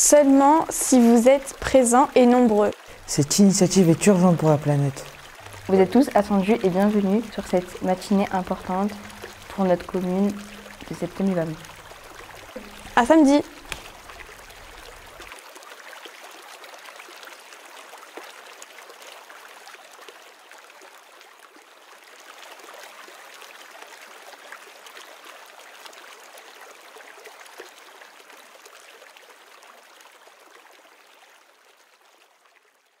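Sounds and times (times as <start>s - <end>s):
stream flowing over rocks: 0.0s - 33.0s.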